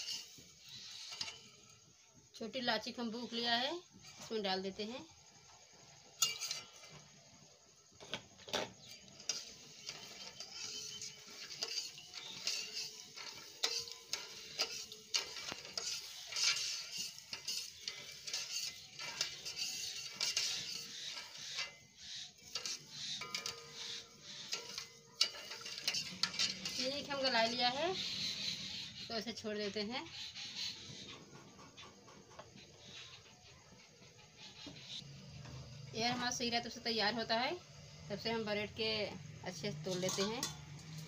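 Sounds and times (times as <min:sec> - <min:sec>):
spatula scraping steel pot: 0:00.0 - 0:04.4, 0:05.9 - 0:35.4, 0:39.5 - 0:41.0.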